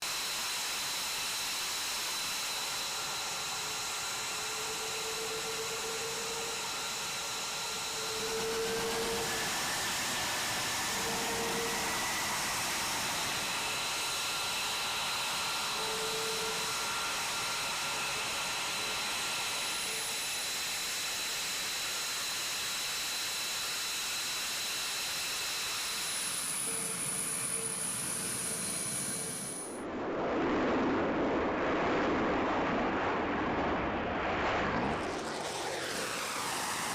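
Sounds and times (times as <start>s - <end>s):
jet engine whine: 0.0s - 36.9s.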